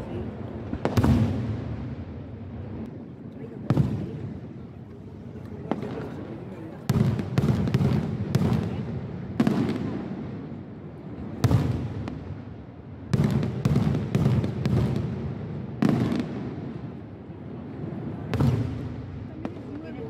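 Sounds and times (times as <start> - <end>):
fireworks bursting with echo: 0.0 - 20.0.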